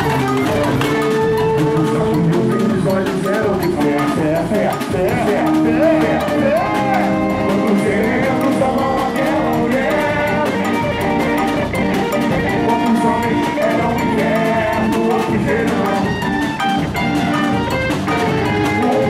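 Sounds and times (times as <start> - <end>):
bass drums: 0.0 - 19.0
electric guitar: 0.0 - 19.0
people singing into microphones: 0.0 - 19.0
snare drums: 0.0 - 19.0.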